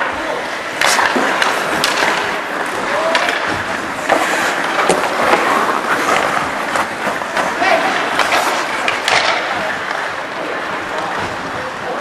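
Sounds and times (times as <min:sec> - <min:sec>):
stick and puck clacks: 0:00.0 - 0:11.4
skate blades scraping ice: 0:00.0 - 0:12.0.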